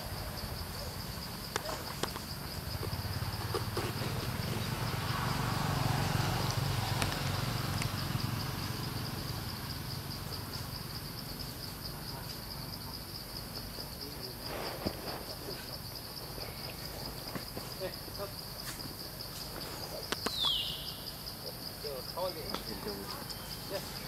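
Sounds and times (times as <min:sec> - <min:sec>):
insect chorus buzzing: 0:00.0 - 0:24.0.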